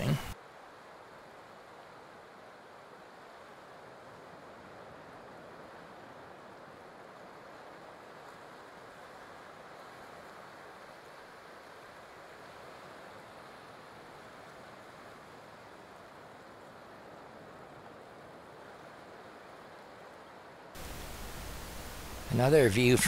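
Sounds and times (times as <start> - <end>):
ocean surf washing ashore: 0.0 - 23.0.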